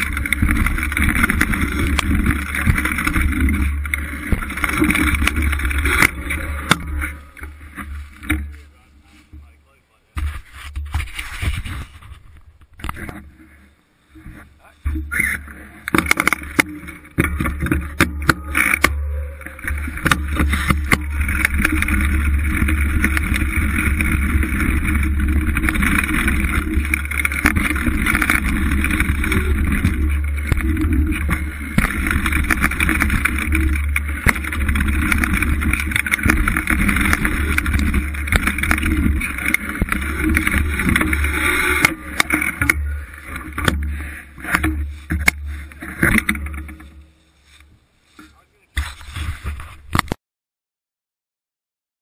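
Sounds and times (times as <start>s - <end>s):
bike rattling over bumps: 0.0s - 50.1s
mountain bike rolling: 0.0s - 50.1s.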